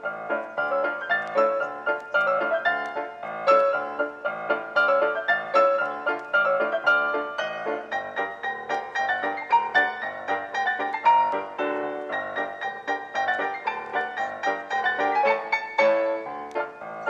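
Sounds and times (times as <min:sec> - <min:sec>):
quick piano music: 0:00.0 - 0:17.0.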